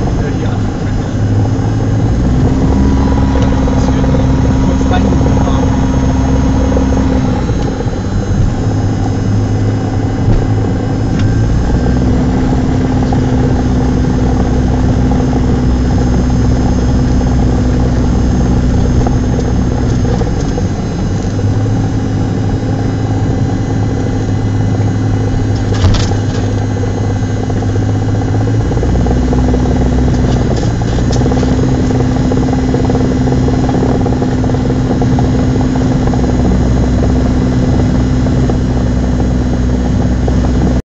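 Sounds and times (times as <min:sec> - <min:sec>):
aircraft engine and propeller running: 0:00.0 - 0:40.8.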